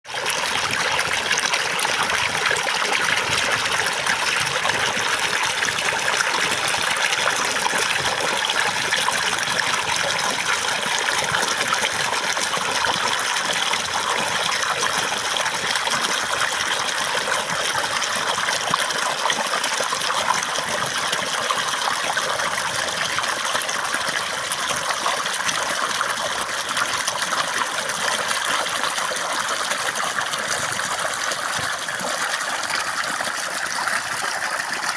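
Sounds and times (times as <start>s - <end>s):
water trickling and gushing: 0.1s - 34.9s.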